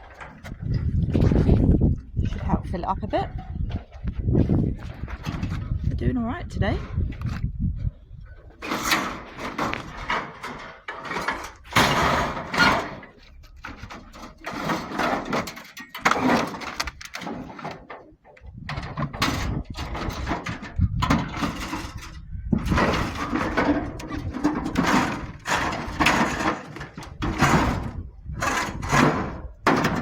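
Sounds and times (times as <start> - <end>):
scrap metal clanking and scraping: 0.0 - 6.0, 8.3 - 30.0.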